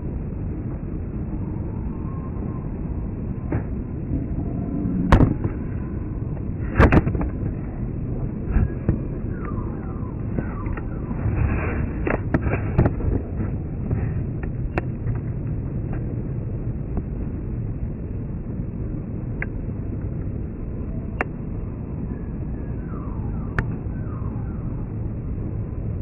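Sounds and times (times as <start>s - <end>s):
jet aircraft rumble: 0.0s - 26.0s.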